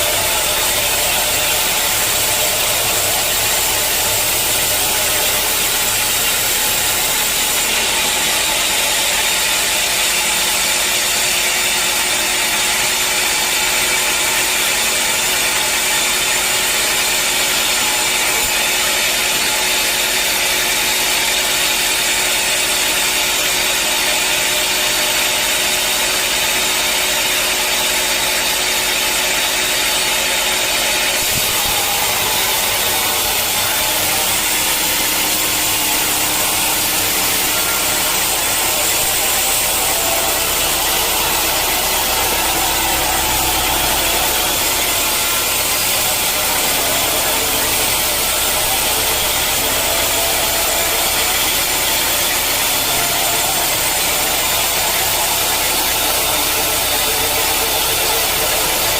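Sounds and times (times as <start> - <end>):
sawmill saw hissing: 0.0 - 58.9.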